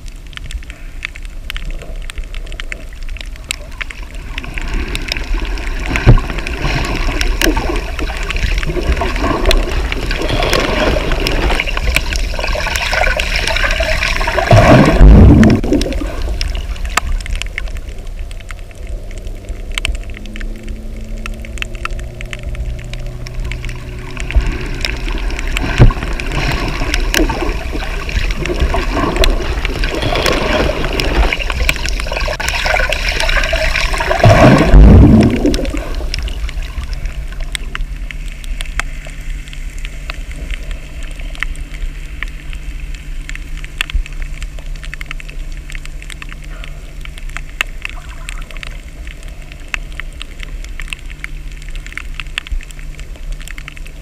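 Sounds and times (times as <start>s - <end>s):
low underwater hum: 0.0s - 54.0s
underwater bubbling and gurgling: 0.0s - 54.0s.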